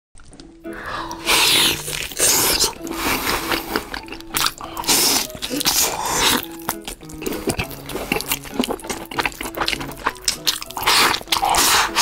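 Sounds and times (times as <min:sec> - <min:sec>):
chewing with wet mouth noises: 0:00.2 - 0:12.0.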